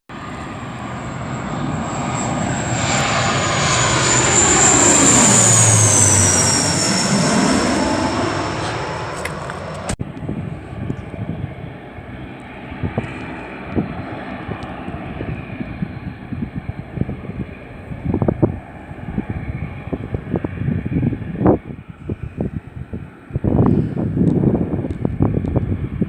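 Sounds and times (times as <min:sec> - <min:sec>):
turboprop airliner: 0:00.1 - 0:26.0
wind buffeting microphone: 0:00.2 - 0:26.0.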